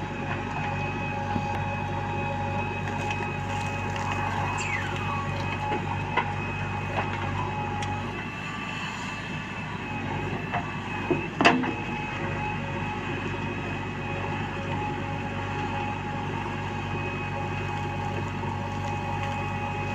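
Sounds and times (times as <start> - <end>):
diesel engine running with whine: 0.0 - 19.9.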